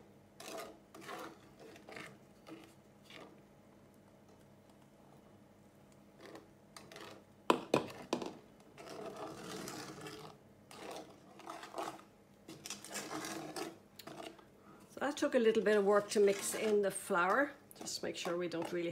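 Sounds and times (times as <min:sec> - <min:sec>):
wooden spoon scraping batter in pan: 0:00.4 - 0:03.4, 0:06.1 - 0:18.9.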